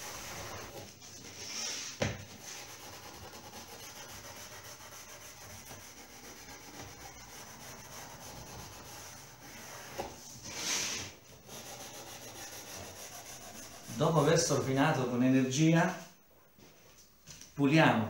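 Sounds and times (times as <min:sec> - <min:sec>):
scrubbing pad rubbing on wood: 0:00.0 - 0:14.8.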